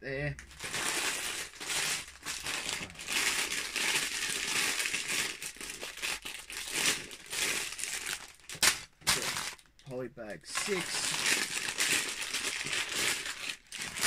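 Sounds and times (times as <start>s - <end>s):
plastic bags crinkling: 0.3s - 9.8s, 10.4s - 14.0s.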